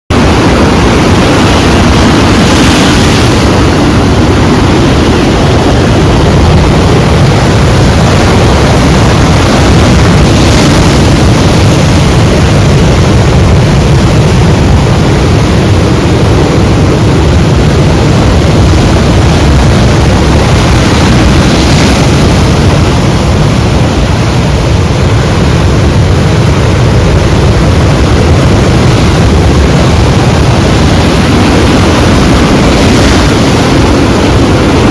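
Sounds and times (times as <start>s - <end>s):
sea waves rumbling: 0.1s - 34.9s.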